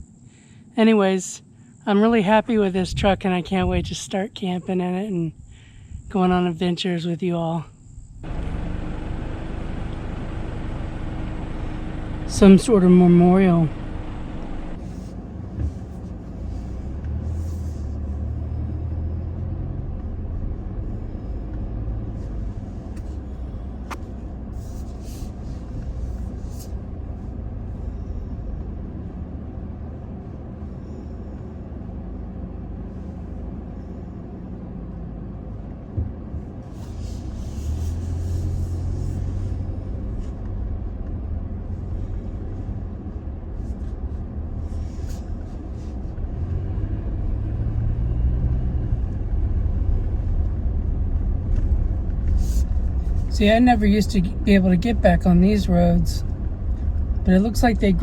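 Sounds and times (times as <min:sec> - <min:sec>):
pickup truck driving on dirt: 0:08.2 - 0:58.0.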